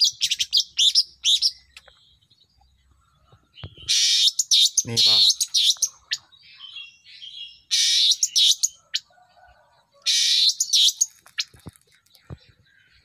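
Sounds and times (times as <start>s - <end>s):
bird twittering and chattering: 0.0s - 9.1s, 10.0s - 13.0s.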